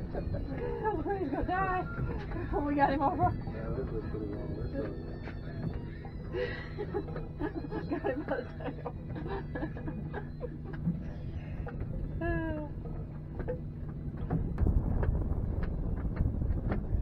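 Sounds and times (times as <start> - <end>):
steady low hum: 0.0 - 17.0
wind rumbling on microphone: 0.0 - 17.0.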